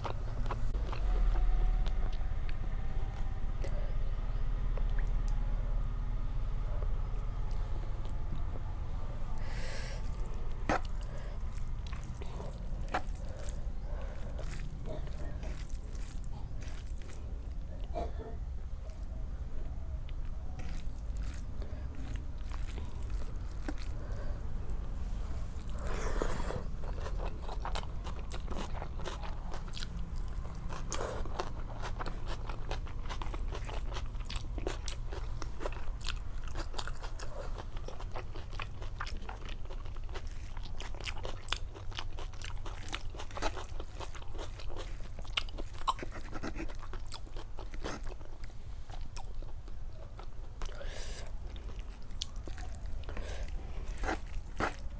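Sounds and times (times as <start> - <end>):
person chewing food: 0.0 - 3.8, 9.4 - 54.9
steady low hum: 0.0 - 54.9.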